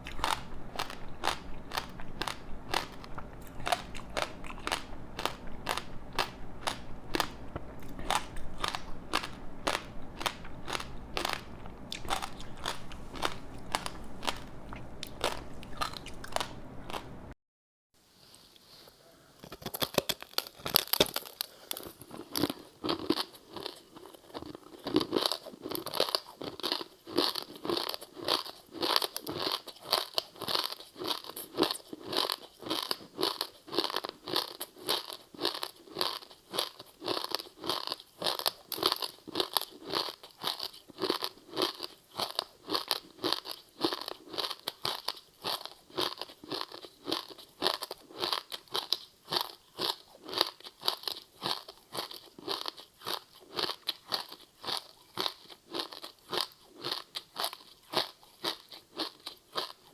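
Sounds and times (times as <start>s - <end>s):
crunchy chewing: 0.0s - 17.2s, 19.4s - 59.9s.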